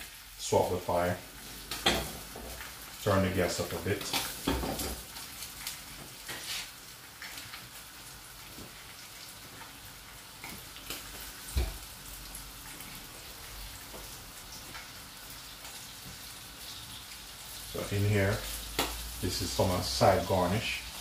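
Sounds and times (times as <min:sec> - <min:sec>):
fish sizzling in a frying pan: 0:00.0 - 0:21.0.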